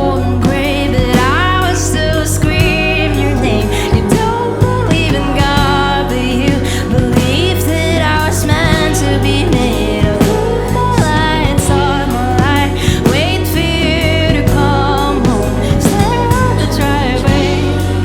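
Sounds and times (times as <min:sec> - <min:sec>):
bass guitar: 0:00.0 - 0:18.0
person singing with vibrato: 0:00.0 - 0:18.0.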